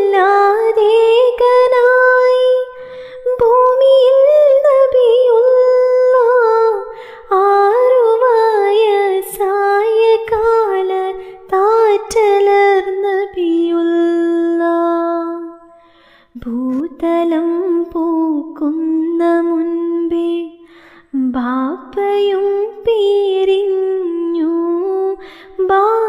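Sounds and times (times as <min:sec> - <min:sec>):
person singing devotional song: 0:00.0 - 0:26.0.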